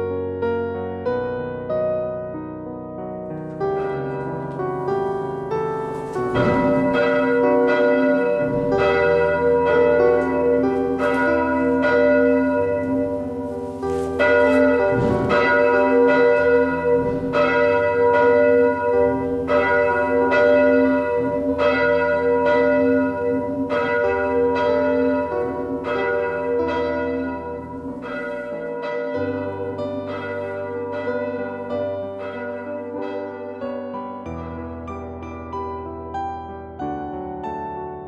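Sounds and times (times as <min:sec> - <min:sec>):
church bells ringing: 0:03.3 - 0:36.5.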